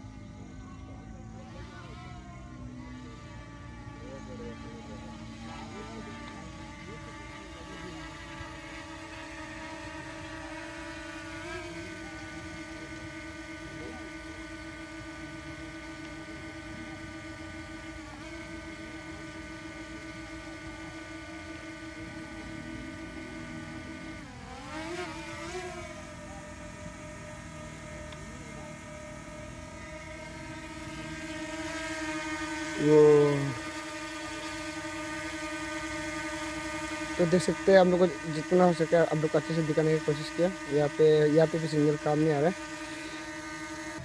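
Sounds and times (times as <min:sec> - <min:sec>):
drone propellers whining: 0:00.0 - 0:44.0.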